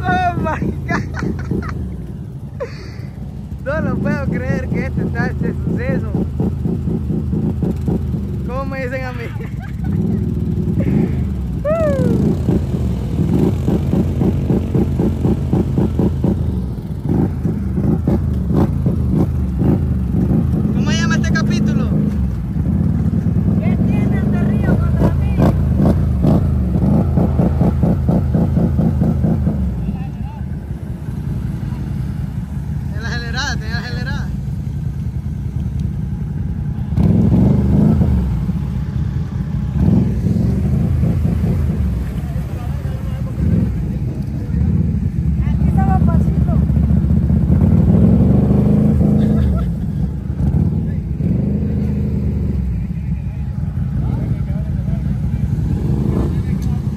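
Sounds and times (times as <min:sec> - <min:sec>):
atv engine revving hard: 0:03.2 - 0:29.9, 0:36.9 - 0:52.9, 0:53.9 - 0:56.9.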